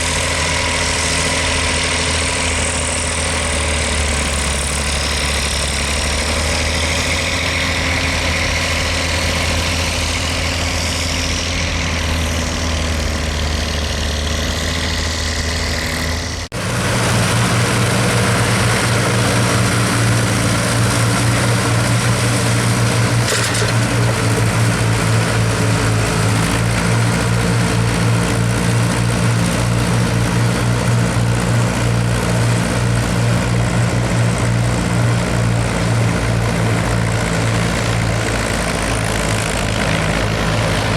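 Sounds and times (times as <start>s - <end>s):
diesel tractor engines running: 0.0s - 40.9s
low pulsing engine note: 0.0s - 40.9s.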